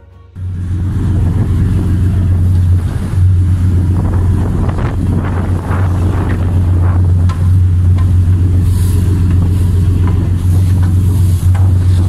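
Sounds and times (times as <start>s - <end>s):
boat engine drone: 0.0s - 12.0s
wind buffeting microphone: 0.4s - 12.0s.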